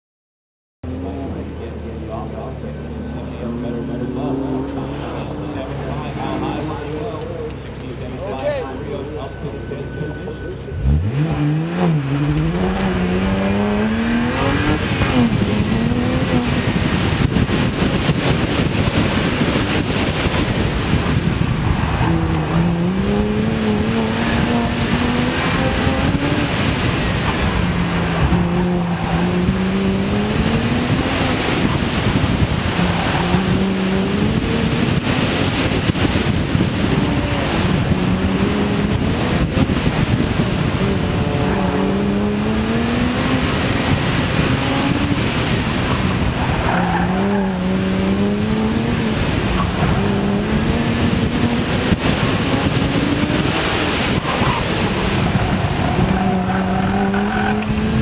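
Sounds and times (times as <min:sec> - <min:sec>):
car engine accelerating hard: 0:00.8 - 0:58.0
wind and road noise: 0:00.8 - 0:58.0.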